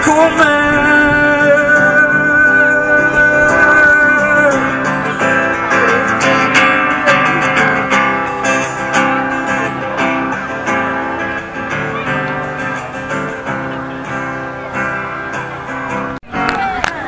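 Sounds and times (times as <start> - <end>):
strummed guitar: 0.0 - 17.0
live band music: 2.6 - 17.0.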